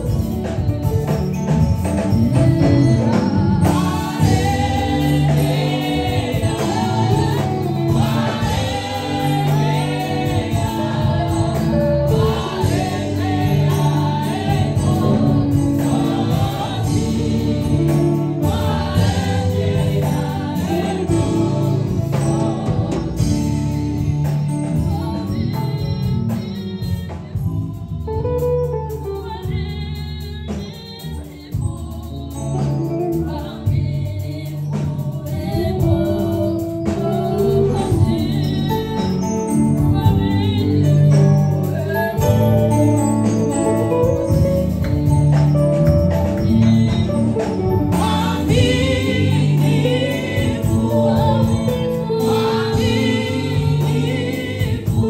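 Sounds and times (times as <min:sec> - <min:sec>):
group singing gospel music: 0:00.0 - 0:55.0.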